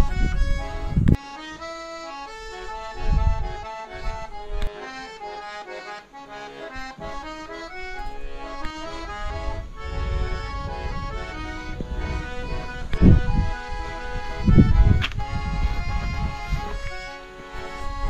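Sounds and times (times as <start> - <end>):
accordion playing quick melody: 0.0 - 18.0.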